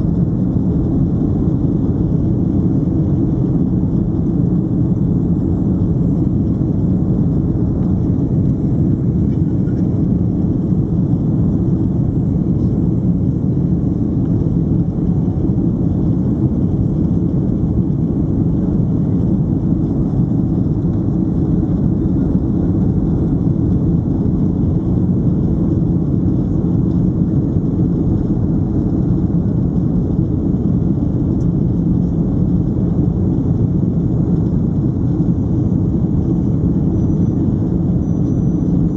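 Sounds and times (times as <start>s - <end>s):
airplane cabin engine and air noise: 0.0s - 38.9s.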